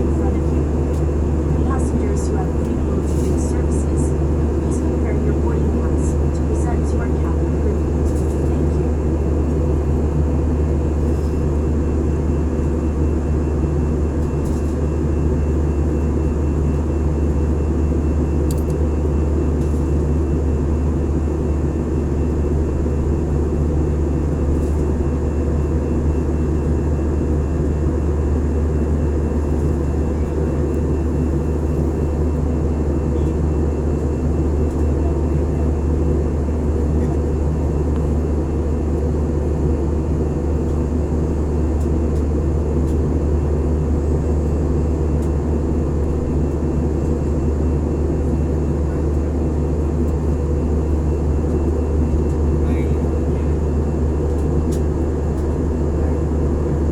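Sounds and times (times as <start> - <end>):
aircraft cabin engine drone: 0.0 - 56.9.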